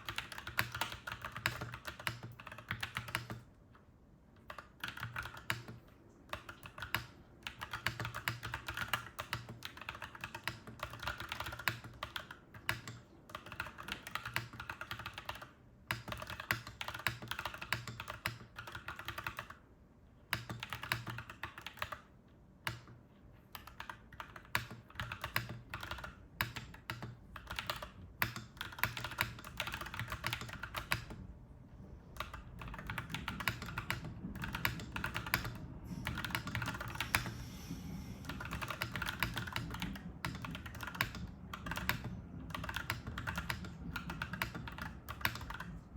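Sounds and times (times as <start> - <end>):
mechanical keyboard typing: 0.0 - 3.5, 4.4 - 19.6, 20.3 - 31.2, 32.2 - 45.9
faint low hum: 0.0 - 45.9.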